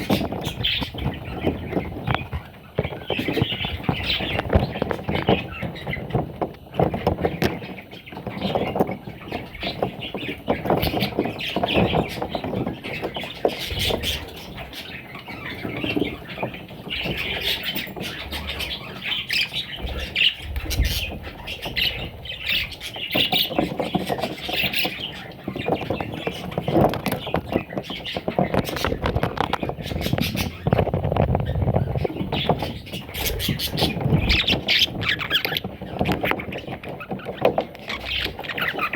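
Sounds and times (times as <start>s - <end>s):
bird chicks squawking: 0.0s - 38.9s
small clicks and scratches: 0.0s - 38.9s.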